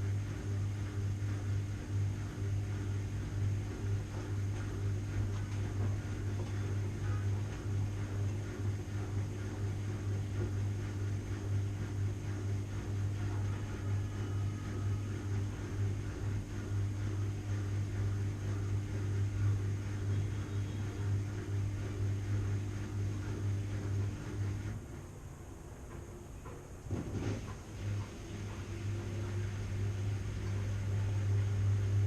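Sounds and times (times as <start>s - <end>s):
washing machine humming and whirring: 0.0s - 32.0s.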